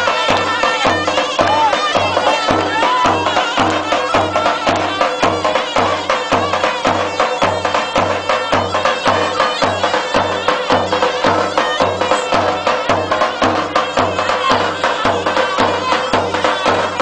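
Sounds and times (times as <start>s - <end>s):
steady drum beat: 0.0s - 17.0s
wind instrument melody: 0.0s - 17.0s.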